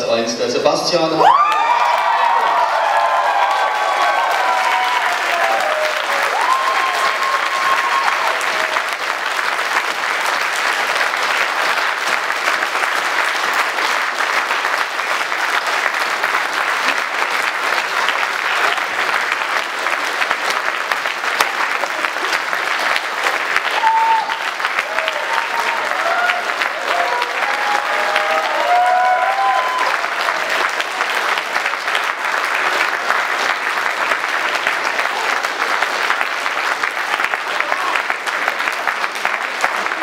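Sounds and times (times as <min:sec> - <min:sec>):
crowd applause: 0:01.2 - 0:40.0.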